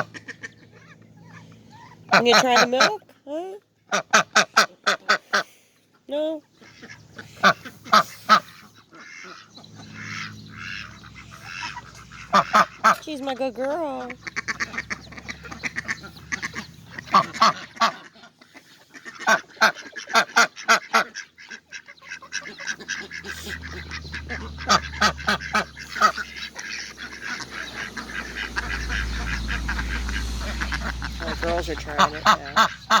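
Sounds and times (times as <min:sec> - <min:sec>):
ducks quacking: 0:00.0 - 0:33.0.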